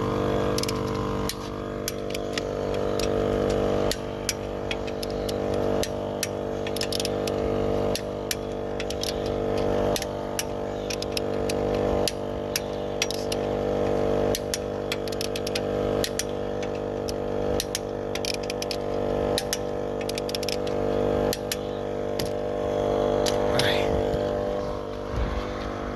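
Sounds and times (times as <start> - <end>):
air compressor humming: 0.0 - 25.9
sharp clicks: 0.5 - 22.4.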